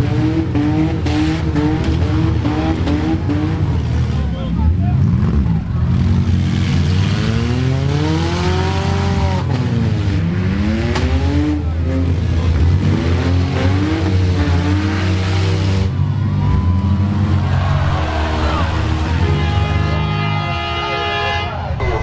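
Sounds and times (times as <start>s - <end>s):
car engines revving hard: 0.0s - 21.9s.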